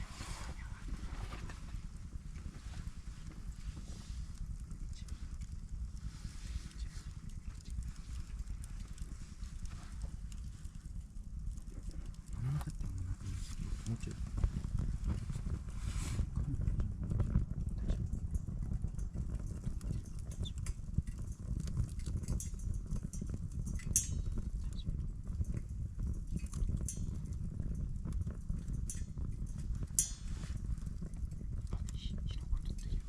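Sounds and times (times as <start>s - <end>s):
campfire crackling: 0.0s - 33.0s
low rumble: 0.0s - 33.0s.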